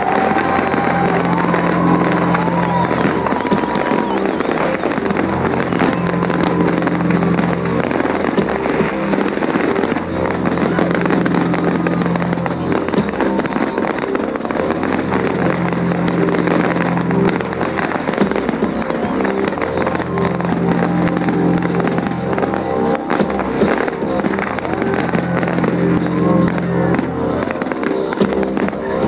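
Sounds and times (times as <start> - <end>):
fireworks bursting and crackling: 0.0 - 29.0
steady low drone: 0.0 - 29.0.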